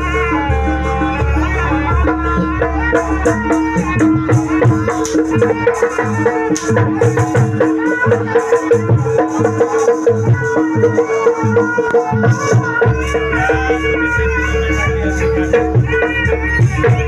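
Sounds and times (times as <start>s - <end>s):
gamelan music over loudspeakers: 0.0s - 17.0s.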